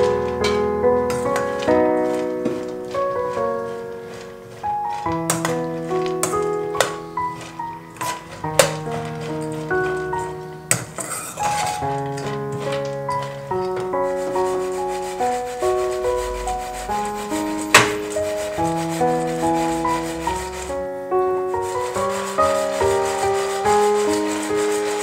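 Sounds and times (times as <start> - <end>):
nuts scraping in a dry pan: 0.0 - 20.8, 21.5 - 25.0
gentle keyboard music: 0.0 - 25.0.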